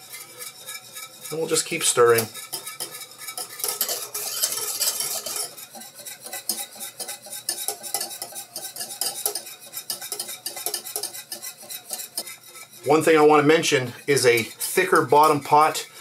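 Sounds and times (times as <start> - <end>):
whisk scraping a metal saucepan: 0.0 - 16.0.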